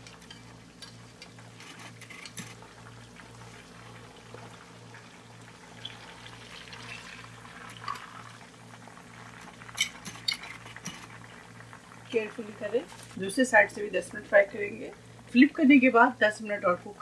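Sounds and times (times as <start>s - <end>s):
hot oil sizzling: 0.0s - 17.0s.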